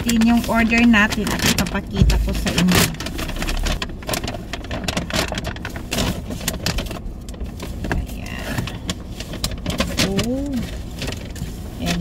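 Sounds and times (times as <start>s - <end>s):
paper bag crinkling: 0.0s - 12.0s.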